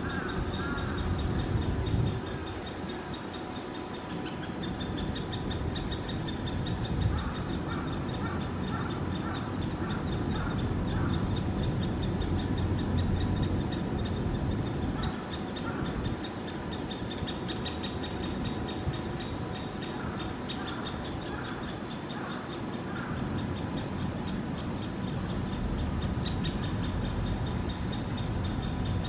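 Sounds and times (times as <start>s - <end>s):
bird nestling high ticking chirps: 0.0s - 29.0s.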